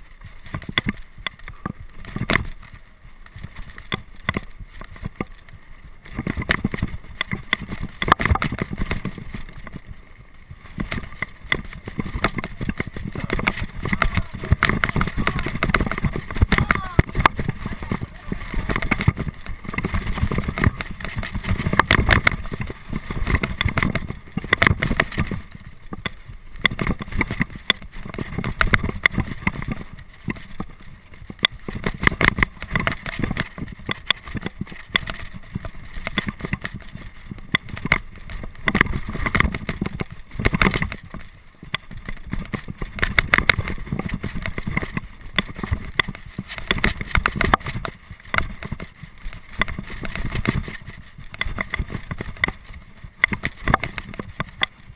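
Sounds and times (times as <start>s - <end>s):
bike clattering and rattling: 0.0s - 54.9s
wind buffeting microphone: 5.5s - 54.9s.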